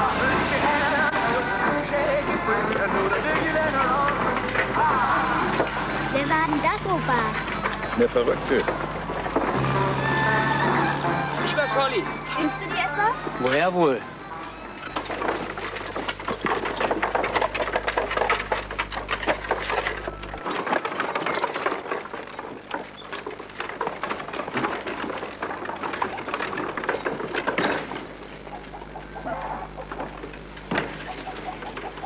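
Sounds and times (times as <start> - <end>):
wooden wagon wheels rattling: 0.0 - 32.0
horse hooves clopping: 1.6 - 32.0.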